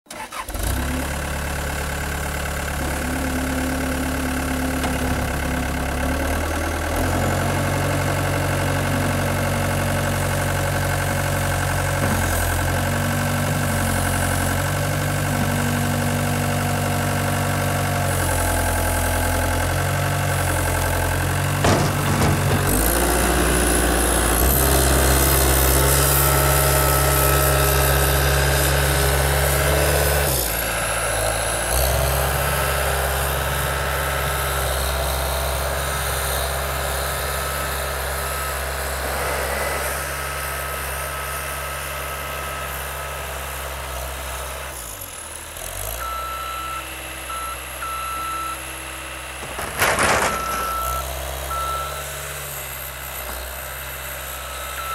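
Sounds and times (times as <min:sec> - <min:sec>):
skid steer diesel engine running: 0:00.1 - 0:54.9.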